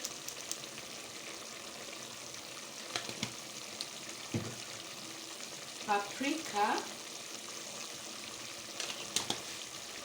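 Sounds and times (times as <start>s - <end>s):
sauce sizzling in a frying pan: 0.0s - 10.0s.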